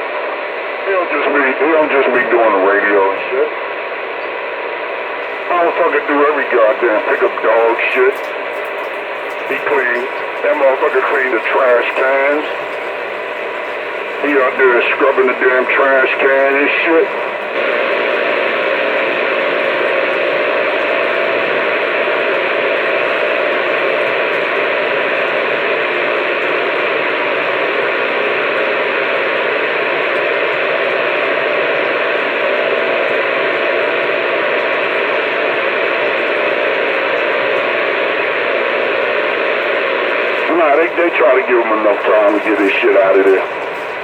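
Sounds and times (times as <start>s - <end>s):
radio static hiss: 0.0s - 44.0s.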